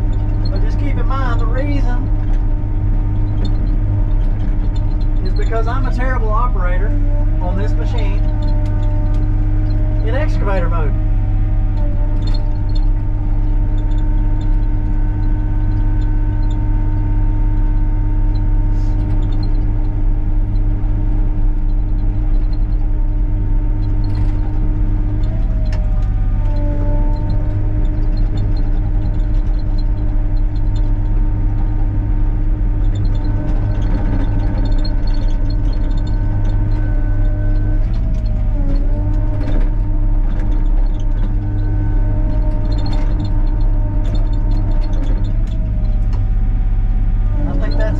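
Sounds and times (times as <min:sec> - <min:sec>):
engine whine: 0:00.0 - 0:47.9
excavator diesel engine running: 0:00.0 - 0:47.9.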